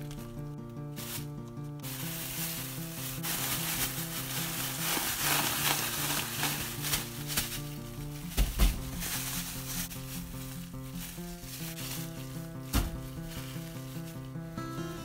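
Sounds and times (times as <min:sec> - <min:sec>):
plastic bag crinkling: 0:00.0 - 0:14.4
background music: 0:00.0 - 0:15.0.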